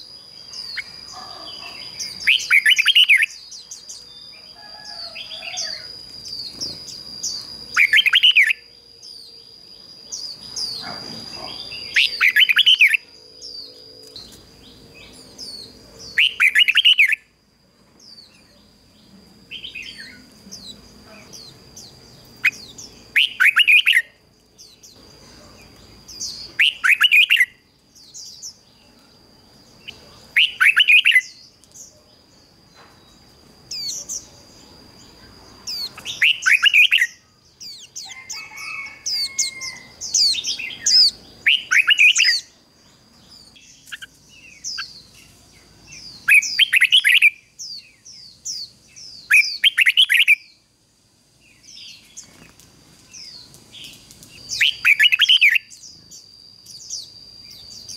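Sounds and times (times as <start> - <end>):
bird warbling song: 0.0 - 17.3, 18.0 - 50.6, 51.5 - 57.9
quiet bird chirps: 0.0 - 50.8, 51.4 - 57.9.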